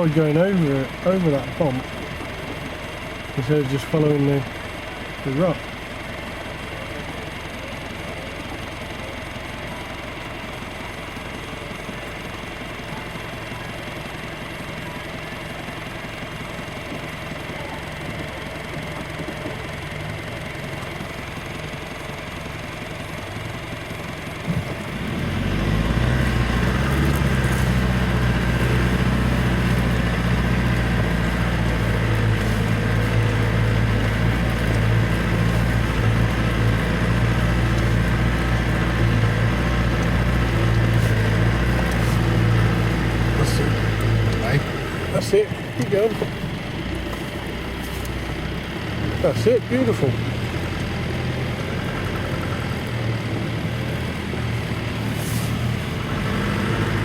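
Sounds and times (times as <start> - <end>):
engine idling and revving: 0.0 - 57.0.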